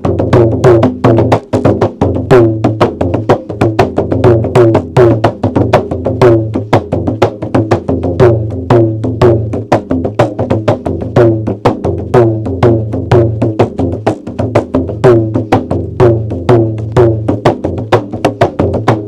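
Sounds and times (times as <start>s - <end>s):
large drum in fast rhythm: 0.0s - 19.0s.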